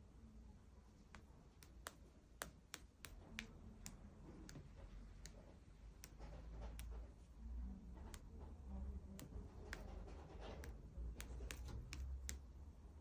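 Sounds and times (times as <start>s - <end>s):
faint irregular clicks: 1.0s - 12.8s.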